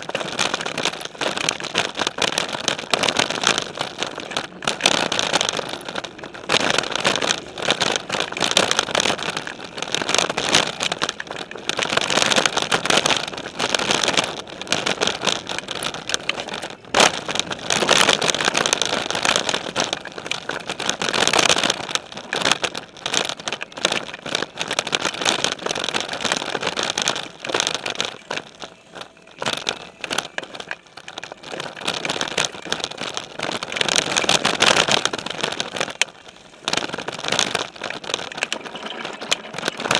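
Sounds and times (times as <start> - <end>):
bike rattling over bumps: 0.0 - 39.9
bike tyres on dirt: 0.0 - 39.9.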